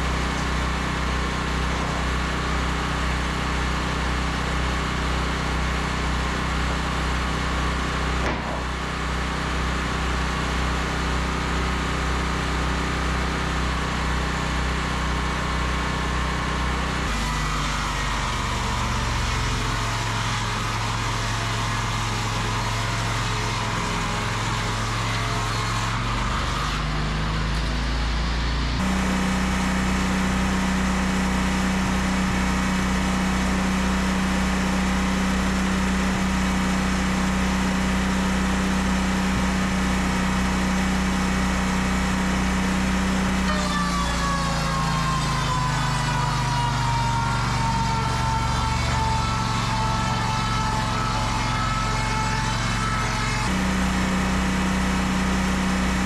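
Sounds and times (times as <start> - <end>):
sawmill engine humming: 0.0 - 56.0.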